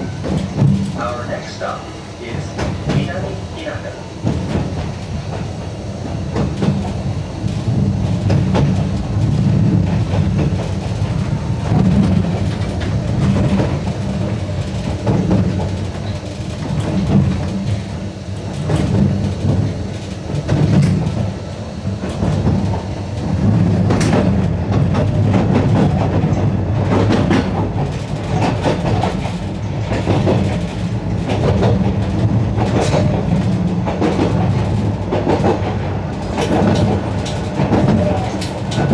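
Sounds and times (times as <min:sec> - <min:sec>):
electric railcar rumbling: 0:00.0 - 0:38.9
wheels clicking over rail joints: 0:00.0 - 0:38.9.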